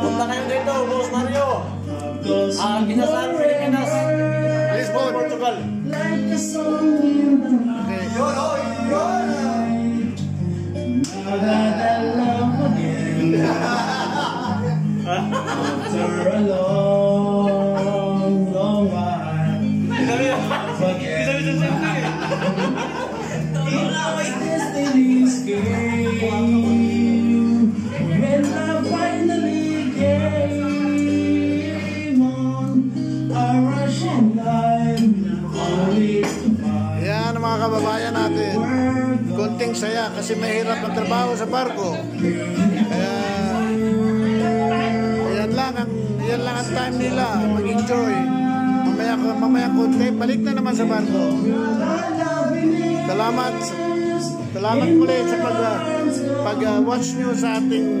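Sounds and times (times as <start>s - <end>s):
backing track over speakers: 0.0s - 58.0s
man singing: 0.0s - 58.0s.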